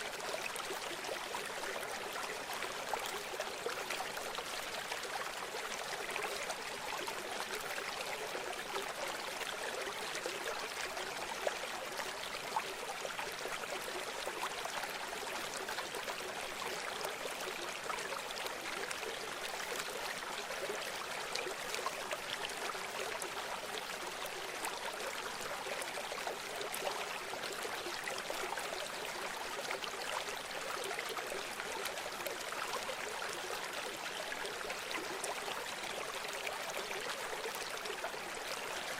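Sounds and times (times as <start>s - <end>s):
river water babbling: 0.0s - 38.9s.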